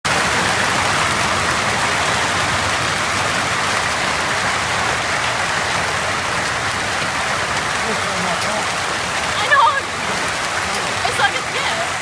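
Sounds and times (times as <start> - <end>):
hail and heavy rain: 0.1 - 12.0.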